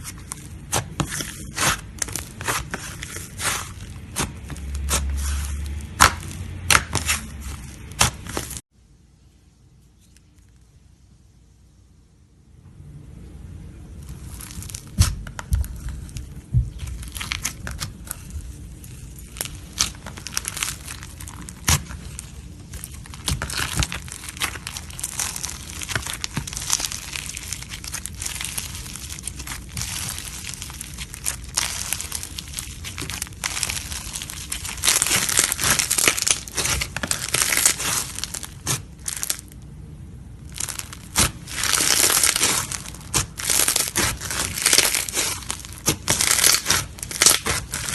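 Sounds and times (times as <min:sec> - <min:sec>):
slime crackling and popping: 0:00.0 - 0:08.6, 0:14.0 - 0:39.6, 0:40.4 - 0:47.9.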